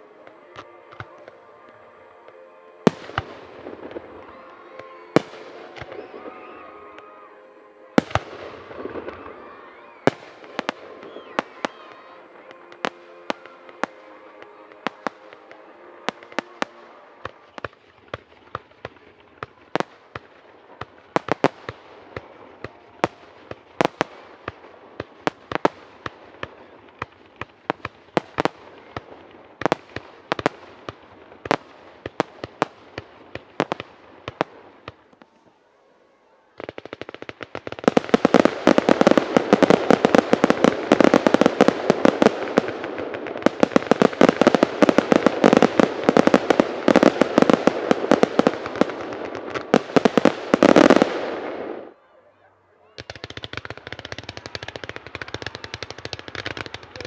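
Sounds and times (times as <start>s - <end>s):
fireworks bangs: 0.0s - 7.3s, 7.9s - 35.6s, 36.5s - 52.0s, 52.8s - 57.0s
fireworks crackling: 0.0s - 52.0s, 52.8s - 57.0s.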